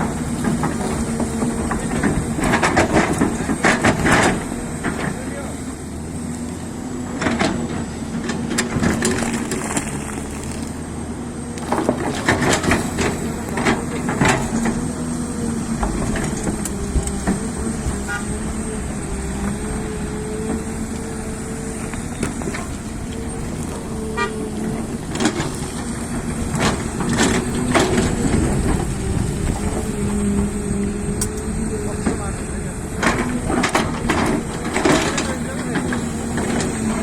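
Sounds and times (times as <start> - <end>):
diesel excavator engine running: 0.0 - 37.0.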